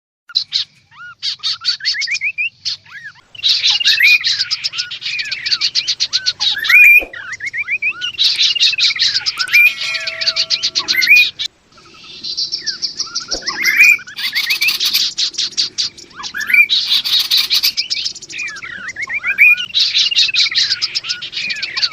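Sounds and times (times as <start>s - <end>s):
birds chirping and whistling: 0.3s - 21.9s.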